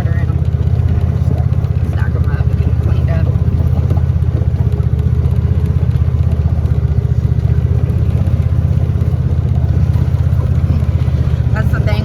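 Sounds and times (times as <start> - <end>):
farm vehicle engine throbbing: 0.0 - 12.0.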